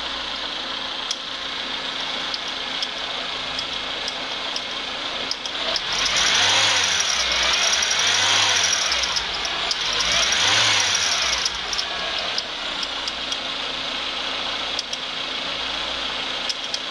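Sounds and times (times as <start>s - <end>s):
car engine revving and idling: 0.0s - 16.9s.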